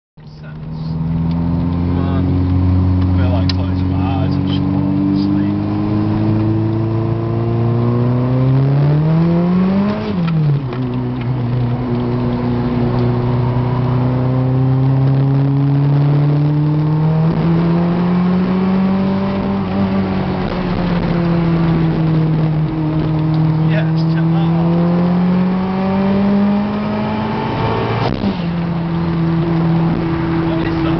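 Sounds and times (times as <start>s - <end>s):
car engine revving under load: 0.2s - 30.9s.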